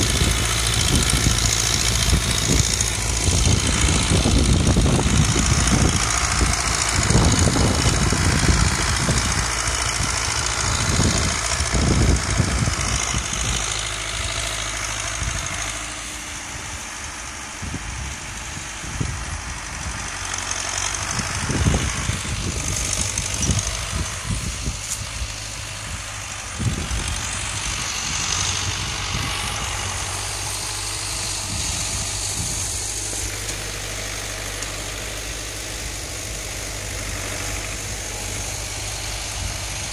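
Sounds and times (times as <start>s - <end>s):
wind on microphone: 0.0s - 14.3s, 17.6s - 20.2s, 20.8s - 39.9s
tractor diesel engine running: 0.0s - 39.9s.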